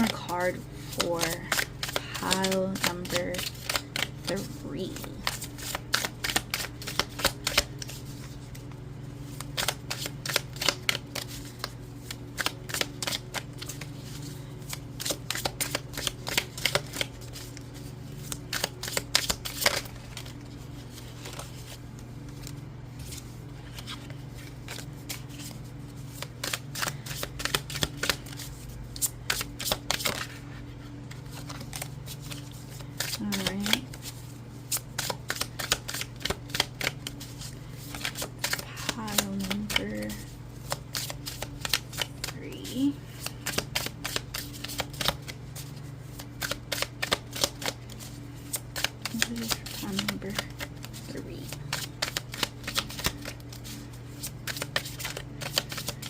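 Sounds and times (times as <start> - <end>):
cards being shuffled: 0.0 - 56.0
steady low hum: 0.0 - 56.0.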